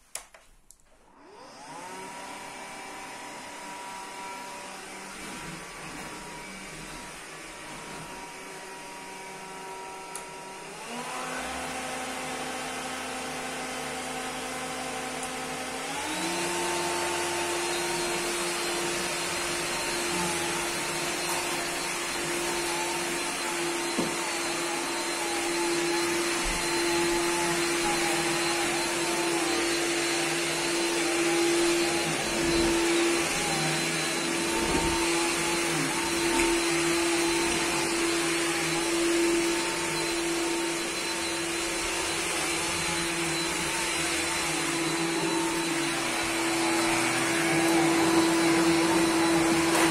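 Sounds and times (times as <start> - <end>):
stick vacuum motor whine: 1.1 - 49.9.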